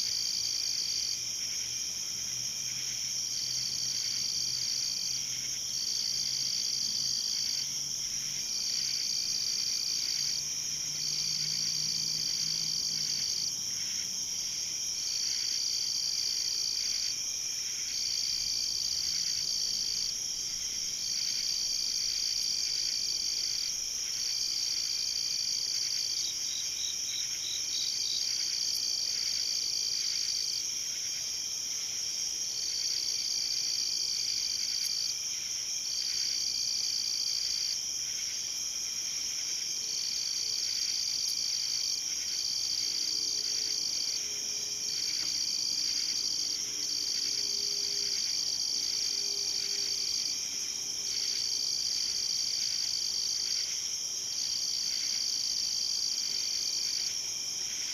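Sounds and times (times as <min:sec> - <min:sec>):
cricket chirps: 0:00.0 - 0:57.9
crickets trilling: 0:00.0 - 0:57.9.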